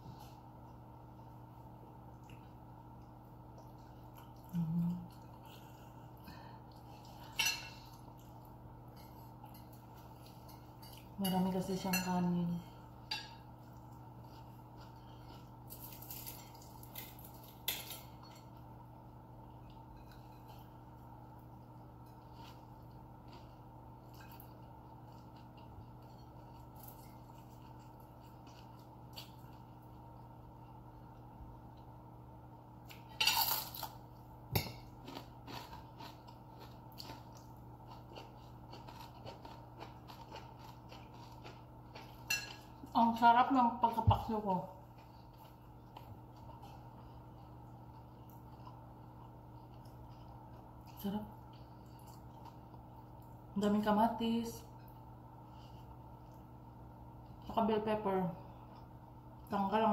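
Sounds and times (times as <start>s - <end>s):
people chewing food: 0.0s - 11.5s, 12.6s - 43.3s, 44.6s - 53.5s, 54.7s - 57.5s, 58.4s - 59.5s.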